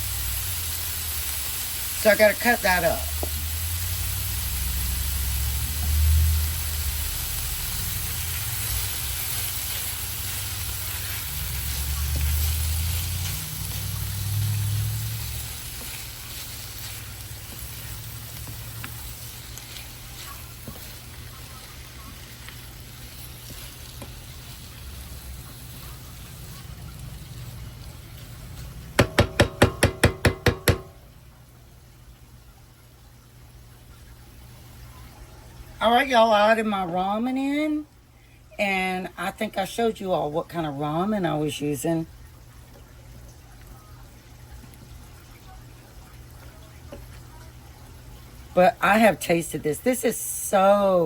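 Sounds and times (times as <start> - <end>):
food sizzling in a pan: 0.0 - 31.2, 39.0 - 51.0.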